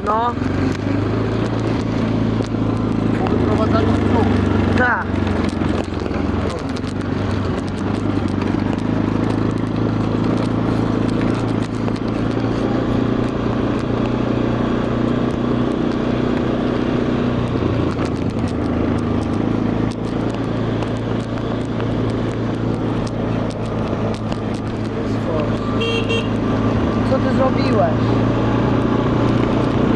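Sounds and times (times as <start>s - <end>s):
quad bike engine running: 0.0s - 29.9s.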